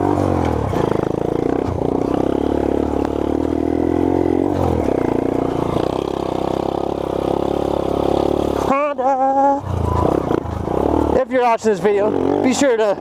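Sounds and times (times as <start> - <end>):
minibike engine running: 0.0 - 13.0.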